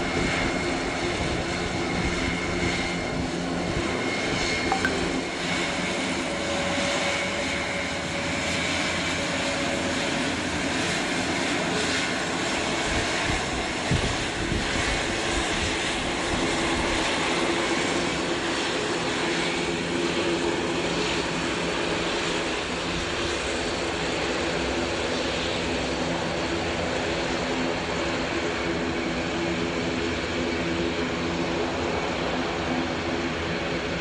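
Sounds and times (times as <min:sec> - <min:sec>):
propeller engines droning: 0:00.0 - 0:34.0.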